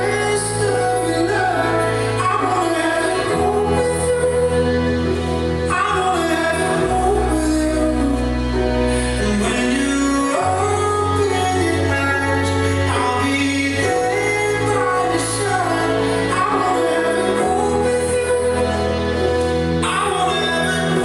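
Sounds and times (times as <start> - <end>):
person singing blues: 0.0 - 21.0.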